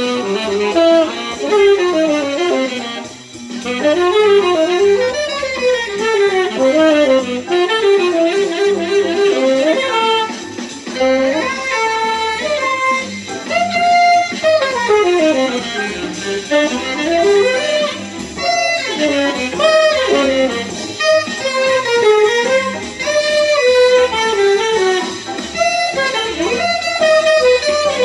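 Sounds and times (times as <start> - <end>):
tenor saxophone jazz solo: 0.0 - 28.0.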